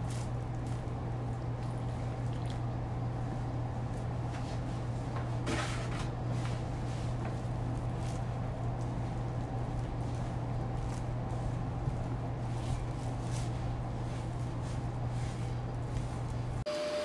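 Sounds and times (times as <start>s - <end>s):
hands squishing wet dough: 0.0s - 5.4s, 6.1s - 16.6s
steady low hum: 0.0s - 17.0s.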